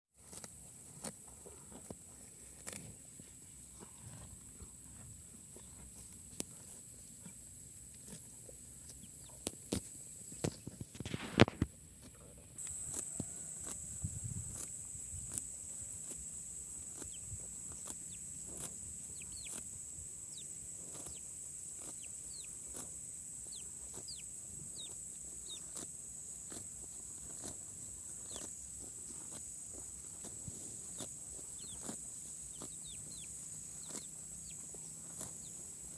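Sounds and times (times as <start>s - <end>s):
cows tearing and chewing grass: 0.1s - 35.9s.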